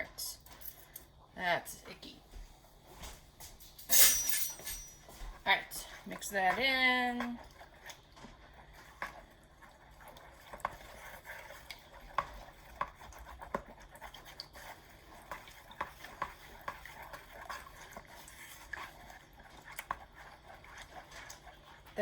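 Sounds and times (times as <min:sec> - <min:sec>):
spoon stirring in a bowl: 0:03.8 - 0:22.0.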